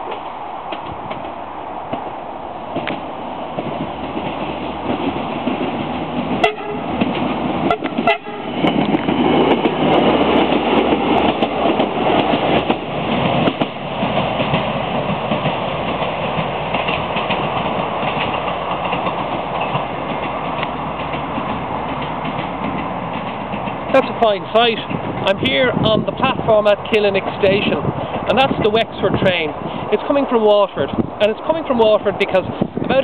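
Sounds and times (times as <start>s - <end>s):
diesel train passing: 0.0s - 33.0s.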